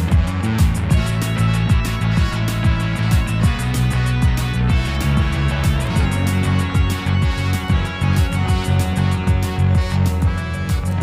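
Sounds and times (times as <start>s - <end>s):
guitar: 0.0s - 11.0s
kick drum beat: 0.1s - 9.4s.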